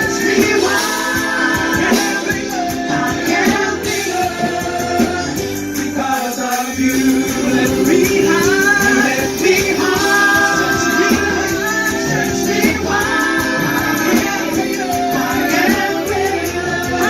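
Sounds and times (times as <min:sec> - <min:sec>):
people singing: 0:00.0 - 0:17.0
worship band playing: 0:00.0 - 0:17.0.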